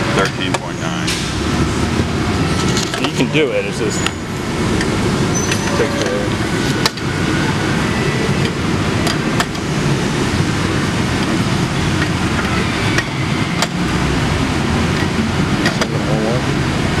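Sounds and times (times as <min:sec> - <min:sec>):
warehouse background noise: 0:00.0 - 0:17.0.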